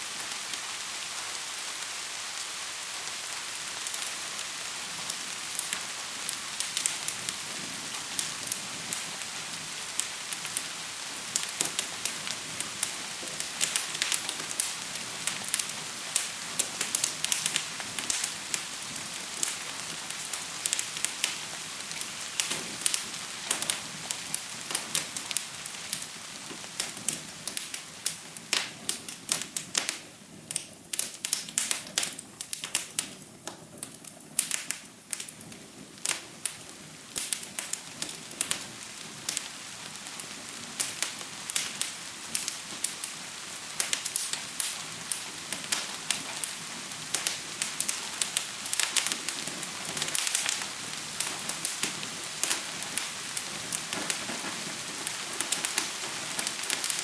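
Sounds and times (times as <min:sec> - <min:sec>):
gentle rain hiss: 0:00.0 - 0:57.0
wood fire crackling and popping: 0:00.0 - 0:57.0.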